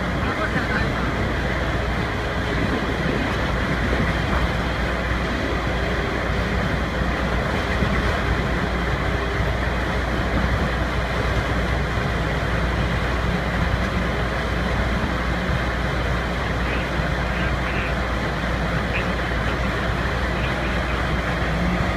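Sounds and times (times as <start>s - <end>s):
low hum: 0.0s - 21.9s
pile-driving rig droning: 0.0s - 21.9s.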